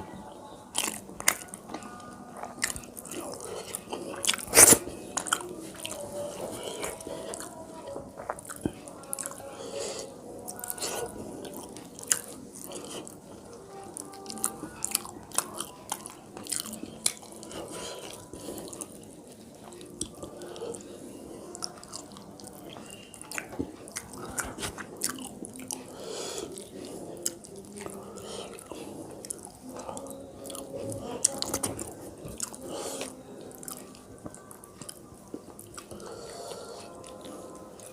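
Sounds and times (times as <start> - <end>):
mouth chewing food: 0.0 - 37.9.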